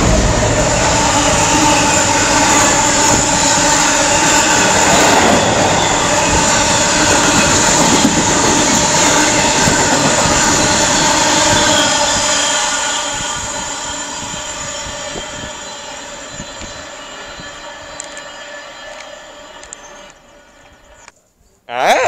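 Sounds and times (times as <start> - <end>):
steady tone: 0.0 - 21.0
train wheels rumbling on rails: 0.0 - 21.2.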